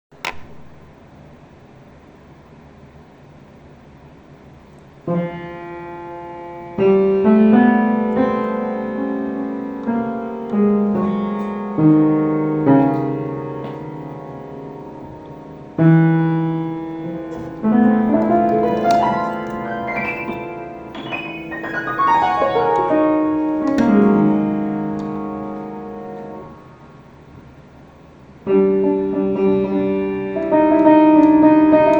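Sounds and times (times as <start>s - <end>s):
slow solo piano: 5.1s - 27.5s, 28.4s - 31.9s.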